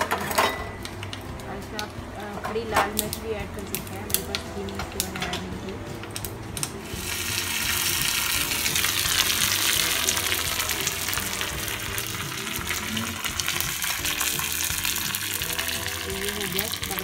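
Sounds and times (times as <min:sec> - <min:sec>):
seeds and leaves sizzling in oil: 0:00.8 - 0:17.0.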